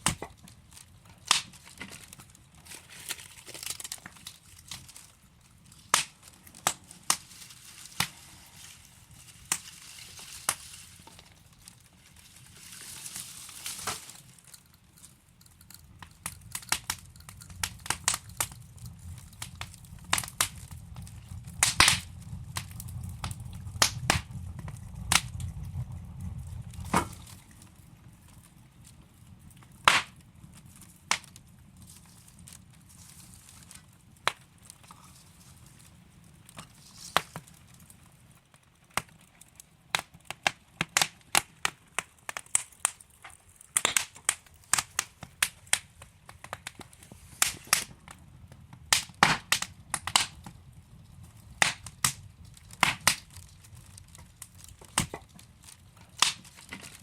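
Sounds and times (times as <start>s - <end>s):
logs crackling with pops: 0.0s - 57.0s
low rumble of flames: 0.0s - 57.0s.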